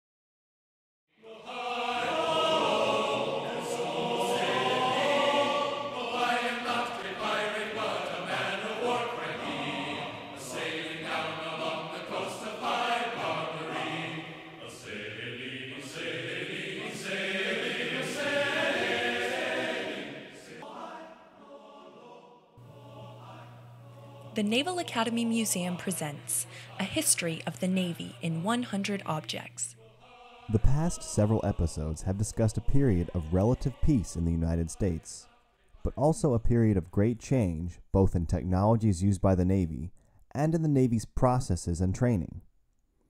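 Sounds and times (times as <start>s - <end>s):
choir singing: 1.1s - 36.8s.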